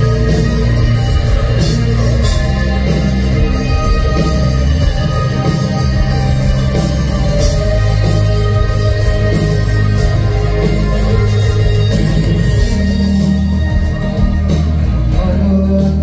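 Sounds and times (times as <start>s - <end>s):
live rock band with electric guitar: 0.0s - 16.0s.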